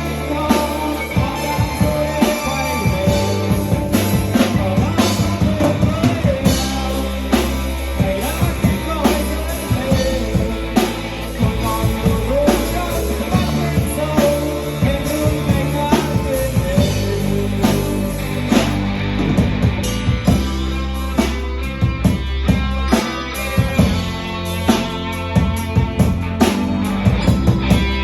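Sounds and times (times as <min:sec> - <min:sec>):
rock music with drums: 0:00.0 - 0:28.0.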